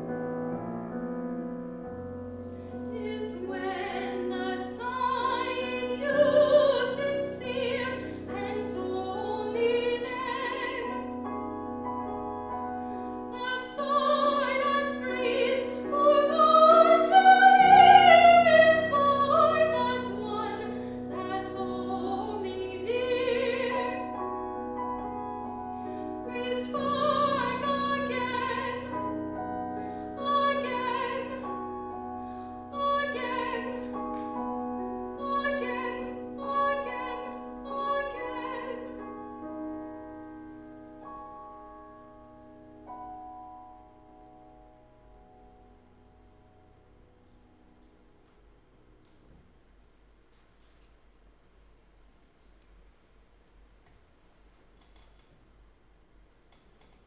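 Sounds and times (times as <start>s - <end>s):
piano accompaniment: 0.0s - 49.6s.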